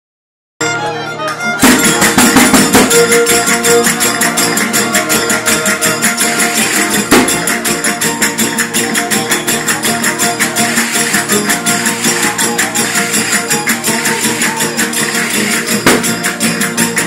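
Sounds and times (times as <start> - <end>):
guitars strummed fast: 1.5 - 17.0
tambourine struck in quick beat: 1.6 - 17.0.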